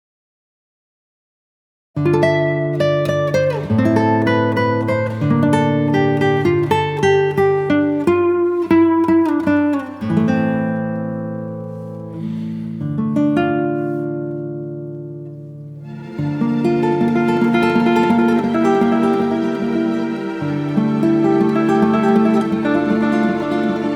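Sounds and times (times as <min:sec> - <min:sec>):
fingerpicked acoustic guitar: 0:02.0 - 0:23.9.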